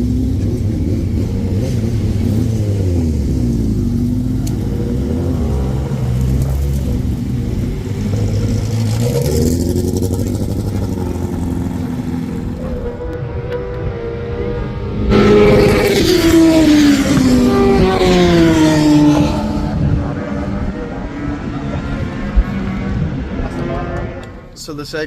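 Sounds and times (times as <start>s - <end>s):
racing motorbike engines revving: 0.0s - 24.6s.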